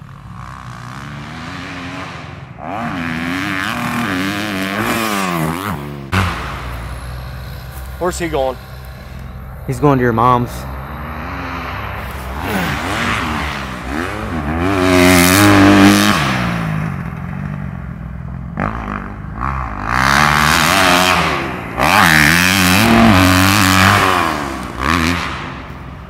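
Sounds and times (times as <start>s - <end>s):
motocross bike engine revving: 0.0s - 26.0s.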